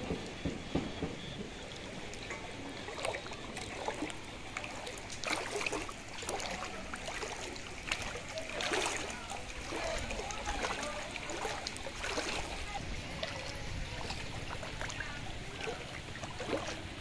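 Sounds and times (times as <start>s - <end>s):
footsteps wading through water: 0.0s - 17.0s.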